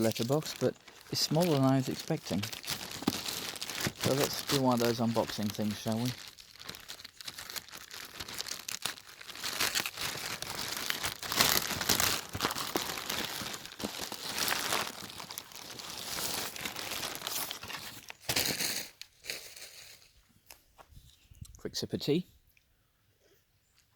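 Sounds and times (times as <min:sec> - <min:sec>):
packaging crinkling and rustling: 0:00.0 - 0:20.1.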